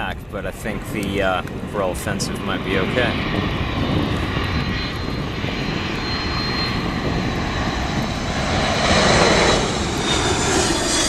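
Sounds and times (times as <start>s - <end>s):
high engine whine: 0.0s - 11.0s
jet engines roaring: 0.0s - 11.0s.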